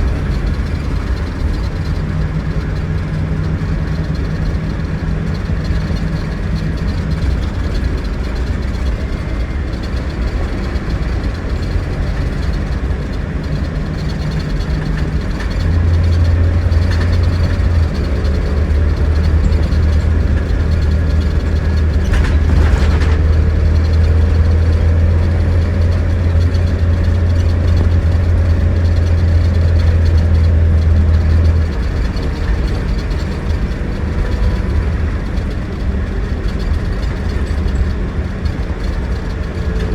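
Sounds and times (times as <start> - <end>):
coach diesel engine drone: 0.0 - 39.9.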